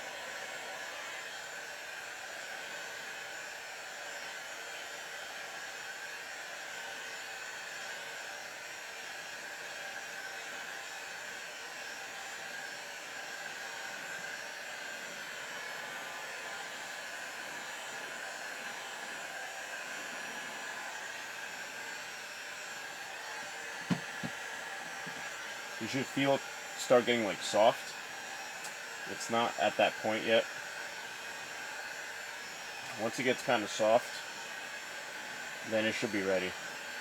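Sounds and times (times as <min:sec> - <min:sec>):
heat gun blowing with whine: 0:00.0 - 0:37.0.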